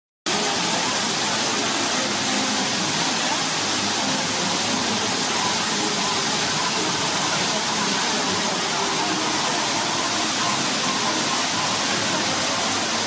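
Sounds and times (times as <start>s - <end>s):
murmur of voices: 0.3s - 13.0s
water rushing over rocks: 0.3s - 13.0s.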